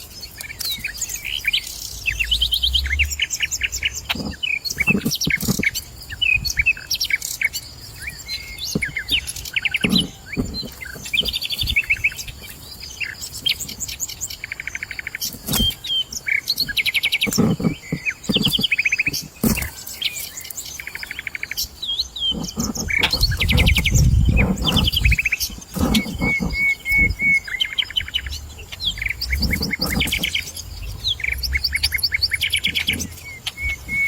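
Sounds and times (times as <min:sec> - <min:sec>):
birds chirping and trilling: 0:00.0 - 0:34.0.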